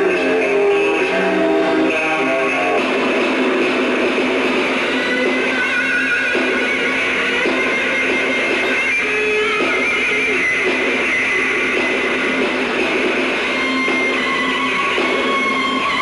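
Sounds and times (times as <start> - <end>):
amplified electric guitar playing: 0.0 - 16.0.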